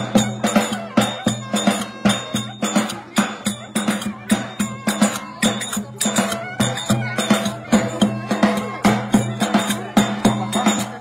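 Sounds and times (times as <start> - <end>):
driving percussive beat: 0.0 - 11.0.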